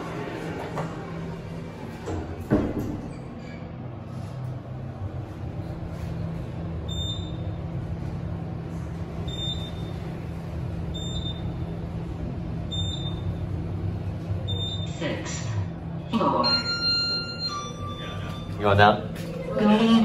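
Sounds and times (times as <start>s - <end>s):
elevator hum and rumble: 0.0s - 20.0s.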